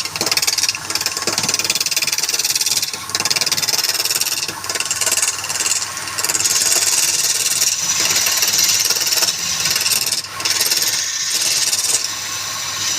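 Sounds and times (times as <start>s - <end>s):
wood lathe cutting wood: 0.0s - 12.9s.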